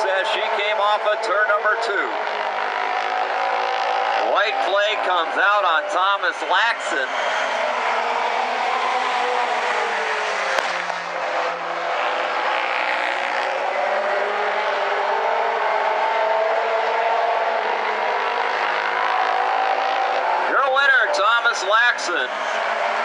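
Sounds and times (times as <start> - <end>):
race cars passing at full throttle: 0.0 - 23.0.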